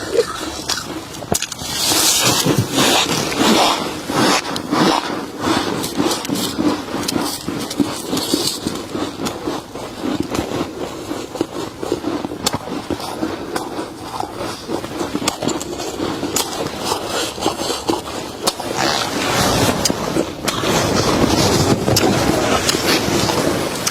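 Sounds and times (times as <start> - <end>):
chewing frost crunching: 0.0 - 23.9.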